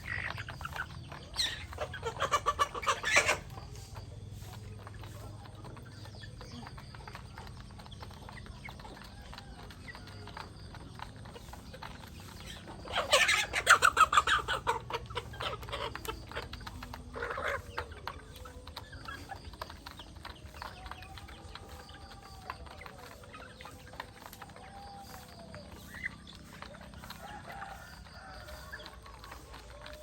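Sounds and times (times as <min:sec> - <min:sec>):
chickens clucking: 0:00.0 - 0:30.0
drawn-out chicken calls: 0:00.0 - 0:30.0.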